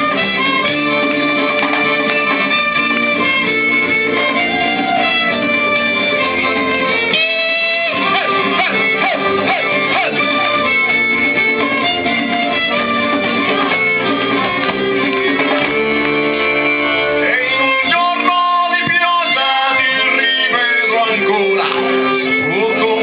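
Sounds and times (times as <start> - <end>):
live band music: 0.0 - 23.0.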